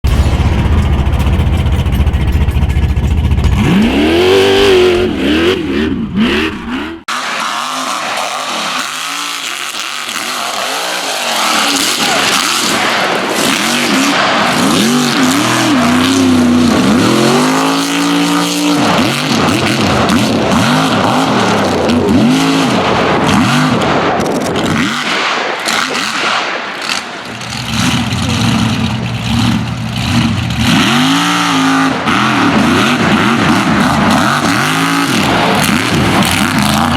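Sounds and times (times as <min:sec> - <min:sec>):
truck engine revving hard: 0:00.1 - 0:36.9.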